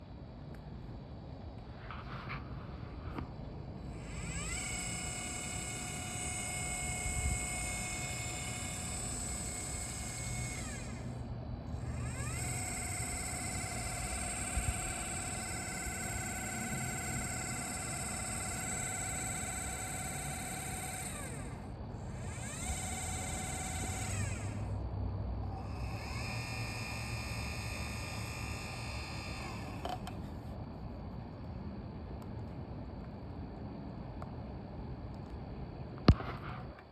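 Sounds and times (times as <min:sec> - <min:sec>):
telescope mount motor whining: 0:01.4 - 0:30.6, 0:36.0 - 0:36.9.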